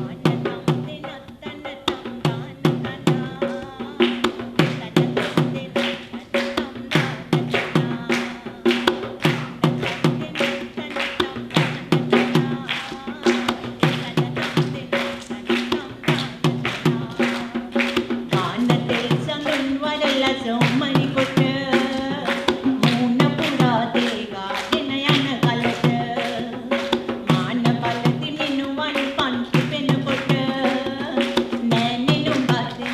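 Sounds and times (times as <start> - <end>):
fast drumming: 0.0 - 32.9.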